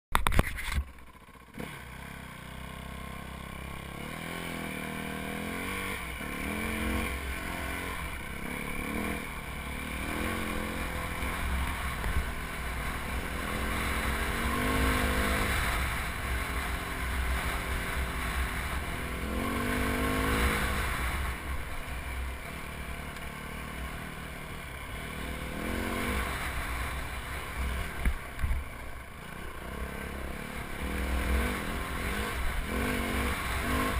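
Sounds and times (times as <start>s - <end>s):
dirt bike engine revving: 1.2s - 33.9s.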